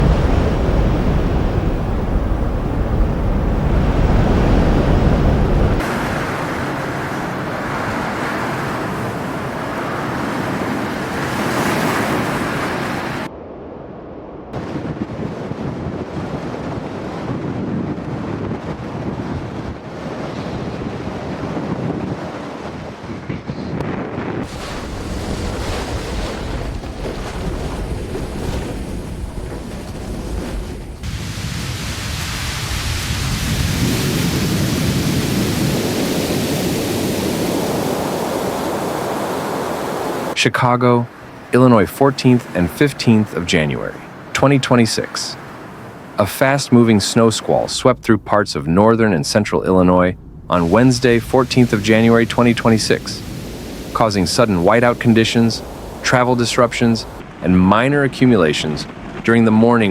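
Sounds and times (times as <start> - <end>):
wind rumble on microphone: 0.0 - 40.4, 48.9 - 59.9
wind rushing: 0.0 - 40.4, 45.2 - 59.9.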